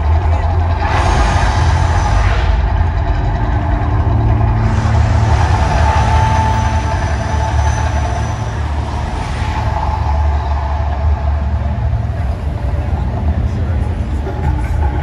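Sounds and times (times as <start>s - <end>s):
deep continuous rumble of eruption: 0.0s - 15.0s.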